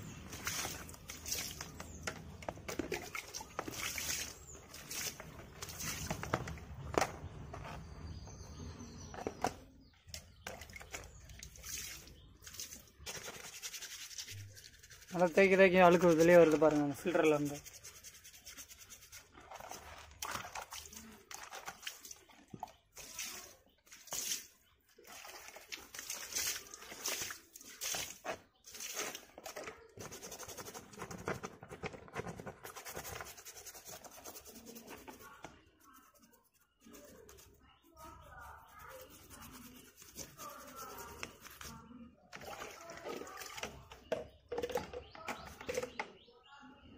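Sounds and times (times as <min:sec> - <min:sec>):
faint water splashing: 0:00.0 - 0:06.7, 0:10.0 - 0:30.7, 0:33.3 - 0:45.9.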